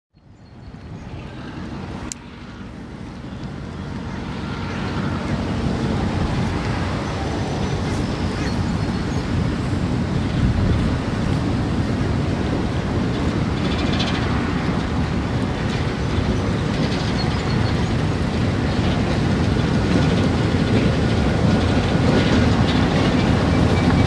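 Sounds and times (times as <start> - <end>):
diesel train rumbling: 0.2 - 24.0
wind buffeting microphone: 0.4 - 24.0.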